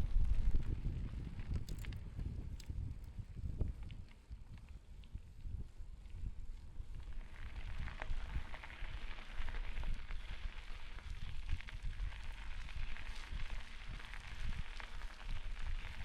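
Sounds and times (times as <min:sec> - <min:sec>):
bicycle tyres rolling on gravel: 0:00.0 - 0:16.0
wind buffeting microphone: 0:00.0 - 0:16.0.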